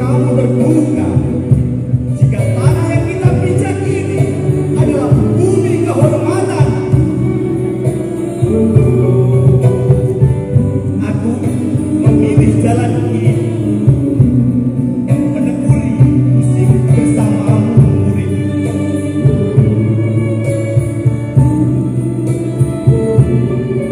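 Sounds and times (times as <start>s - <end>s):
live band with singing: 0.0s - 23.9s.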